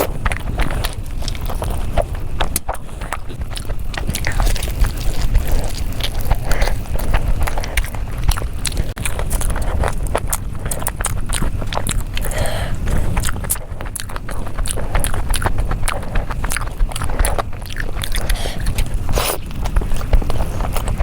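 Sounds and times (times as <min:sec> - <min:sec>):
chewing with wet mouth clicks: 0:00.0 - 0:21.0
crunchy bites: 0:00.0 - 0:21.0
steady low rumble: 0:00.0 - 0:21.0.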